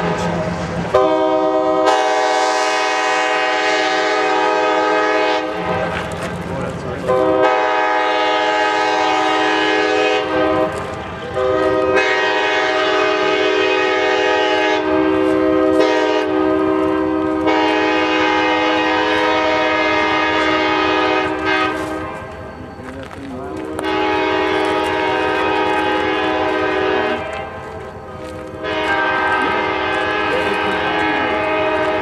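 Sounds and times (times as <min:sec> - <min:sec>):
locomotive air horn chord: 0:00.9 - 0:05.7, 0:07.1 - 0:22.2, 0:23.7 - 0:27.4, 0:28.6 - 0:32.0.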